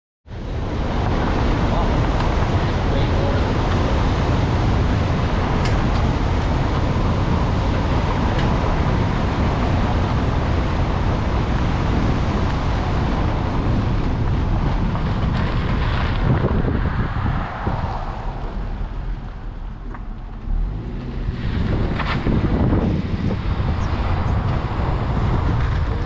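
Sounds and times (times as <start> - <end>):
car tyre and wind noise: 0.2 - 26.0.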